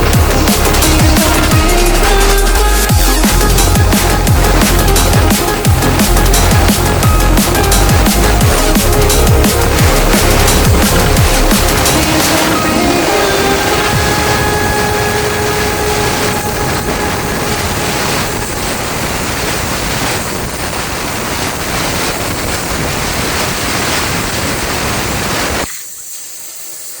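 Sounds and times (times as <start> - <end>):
plasma cutter arc hissing: 0.0 - 27.0.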